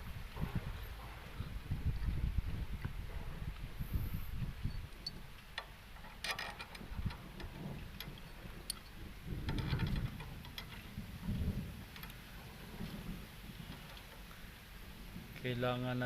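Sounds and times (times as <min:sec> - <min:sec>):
low uneven rumble: 0:00.0 - 0:16.0.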